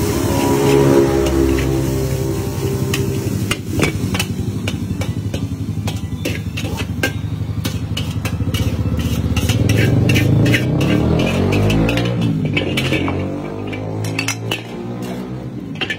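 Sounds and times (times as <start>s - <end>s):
metal spatula scraping wok: 0.0s - 15.9s.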